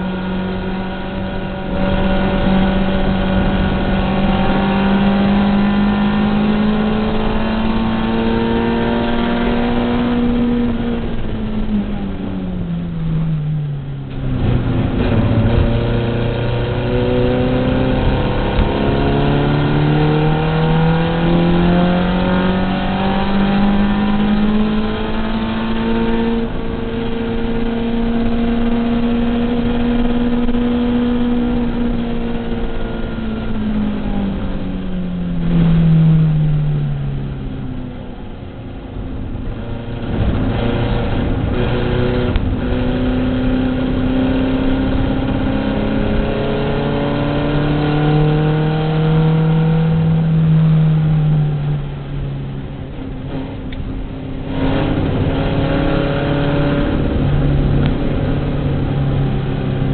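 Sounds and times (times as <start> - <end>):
race car engine revving: 0.0 - 13.2, 13.8 - 59.9.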